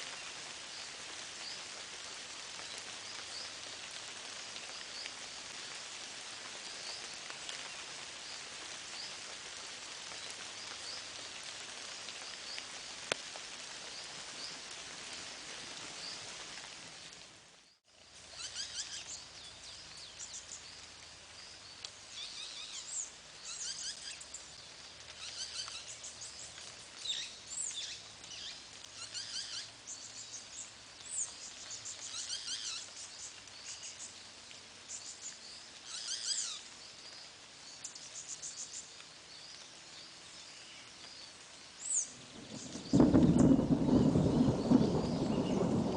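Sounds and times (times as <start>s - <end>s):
faint outdoor hiss: 0.0s - 45.9s.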